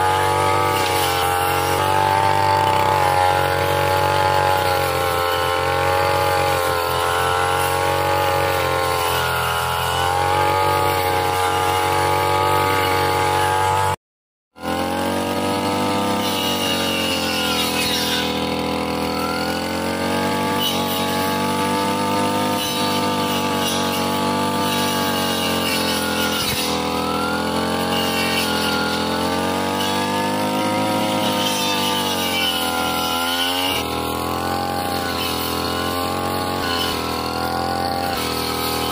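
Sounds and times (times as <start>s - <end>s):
brush cutter engine at high revs: 0.0s - 14.0s, 14.6s - 38.9s.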